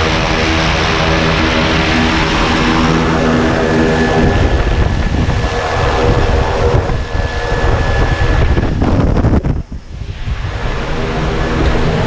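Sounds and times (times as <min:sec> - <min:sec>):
propeller engine droning: 0:00.0 - 0:12.0
wind buffeting microphone: 0:00.0 - 0:12.0.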